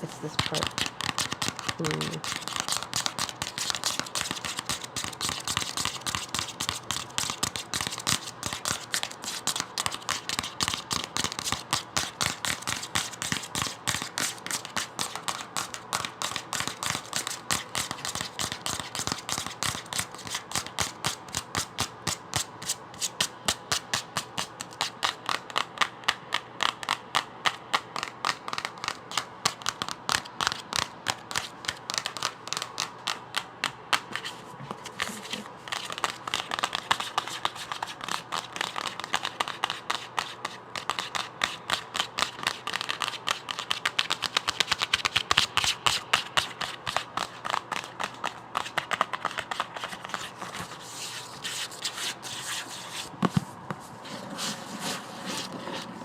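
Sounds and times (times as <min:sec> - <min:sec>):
book clicking by hand: 0:00.3 - 0:22.2, 0:23.2 - 0:50.8.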